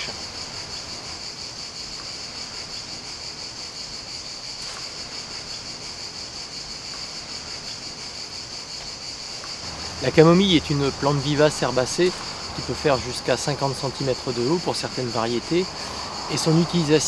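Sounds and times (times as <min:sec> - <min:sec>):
insects shrilling: 0:00.0 - 0:17.0.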